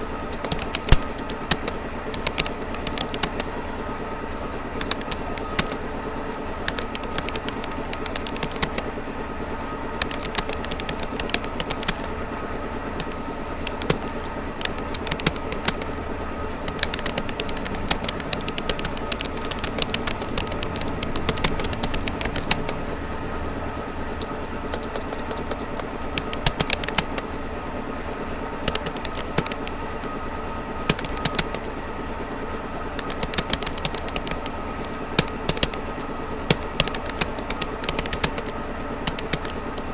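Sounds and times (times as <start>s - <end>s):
background hum: 0.0s - 39.9s
computer keyboard keys clicking: 0.3s - 3.9s, 4.7s - 9.0s, 9.9s - 23.0s, 24.1s - 27.4s, 28.6s - 29.8s, 30.9s - 31.7s, 32.9s - 39.9s.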